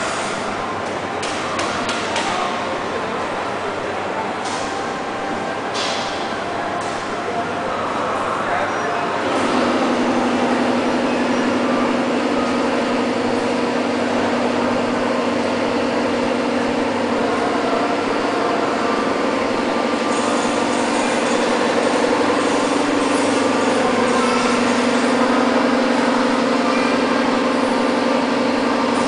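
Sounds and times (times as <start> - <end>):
low mechanical hum: 0.0 - 29.0
noisy background din: 0.0 - 29.0.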